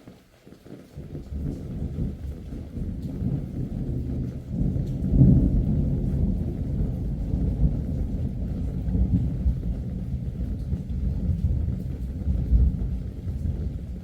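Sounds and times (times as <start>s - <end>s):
light rain falling: 0.0s - 14.0s
rolling thunder rumble: 1.0s - 14.0s.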